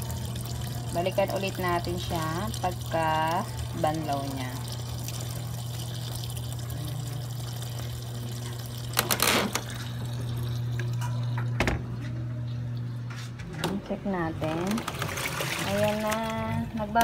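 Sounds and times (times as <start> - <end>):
water rushing into washing machine: 0.0 - 17.0.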